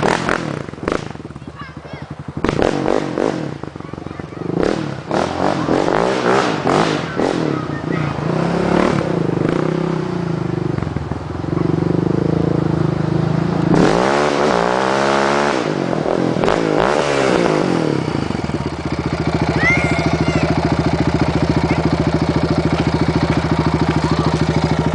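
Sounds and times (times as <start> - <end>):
quad bike engine revving and idling: 0.0 - 24.9.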